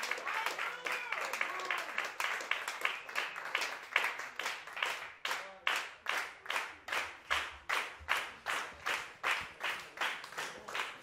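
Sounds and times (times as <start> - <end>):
audience rhythmic clapping: 0.0 - 11.0.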